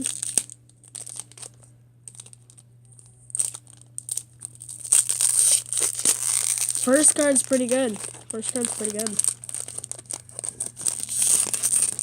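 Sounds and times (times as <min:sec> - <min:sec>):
foil wrapper crinkling: 0:00.0 - 0:12.0
foil wrapper tearing: 0:00.0 - 0:12.0.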